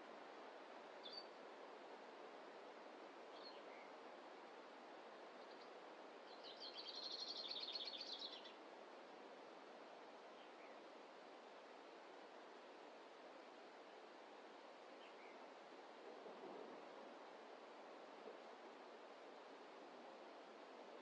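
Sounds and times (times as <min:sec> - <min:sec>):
forest ambience hiss: 0:00.0 - 0:21.0.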